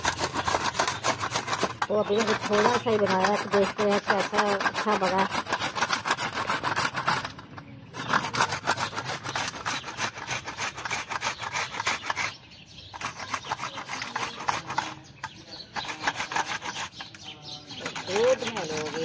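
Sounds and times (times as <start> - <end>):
carrots rasping on metal grater: 0.0 - 19.0.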